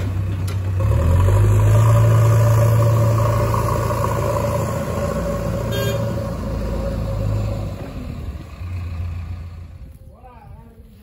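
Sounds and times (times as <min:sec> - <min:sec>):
diesel engines running at low speed: 0:00.0 - 0:11.0.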